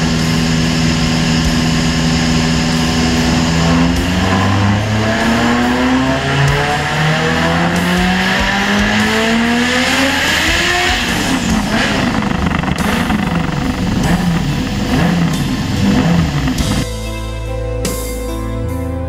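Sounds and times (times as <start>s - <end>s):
car engine revving on dyno: 0.0s - 16.8s.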